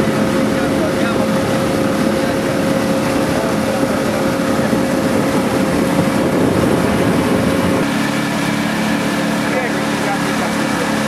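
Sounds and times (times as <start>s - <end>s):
motorboat engine running: 0.0s - 11.0s
water rushing past hull: 0.0s - 11.0s
wind: 0.0s - 11.0s.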